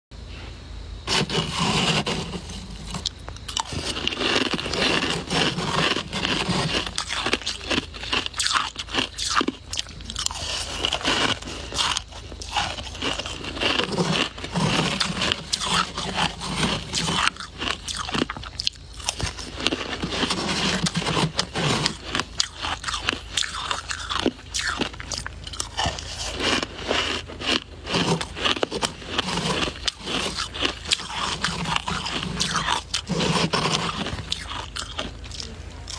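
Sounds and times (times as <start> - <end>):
shaved ice being chewed: 1.1 - 35.9.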